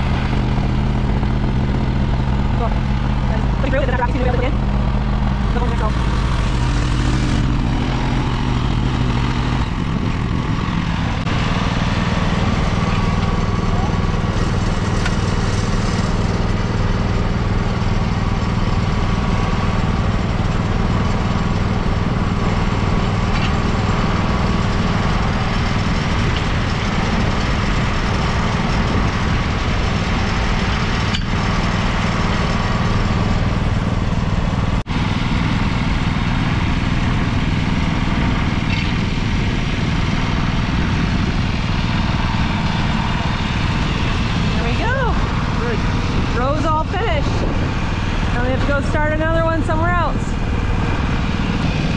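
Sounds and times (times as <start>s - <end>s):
farm machinery engine idling: 0.0s - 51.9s.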